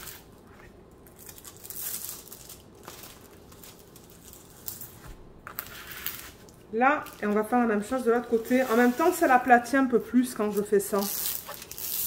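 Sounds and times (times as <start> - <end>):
plastic film crinkling and rustling: 0.0 - 9.7, 10.4 - 12.0.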